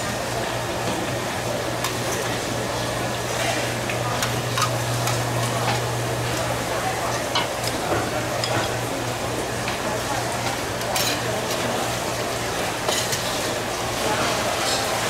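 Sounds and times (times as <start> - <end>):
faint voices: 0.0 - 15.0.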